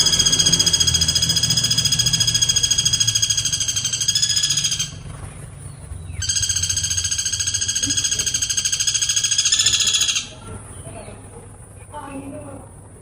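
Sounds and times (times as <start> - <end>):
woodpecker rapid trills: 0.0 - 10.8.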